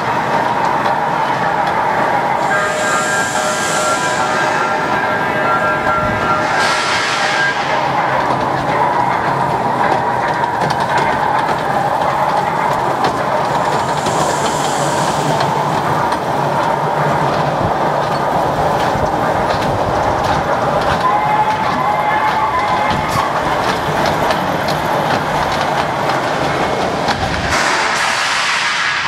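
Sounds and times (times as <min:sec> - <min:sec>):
train ride whine: 0:00.0 - 0:29.0
wheels clicking on track: 0:00.0 - 0:29.0.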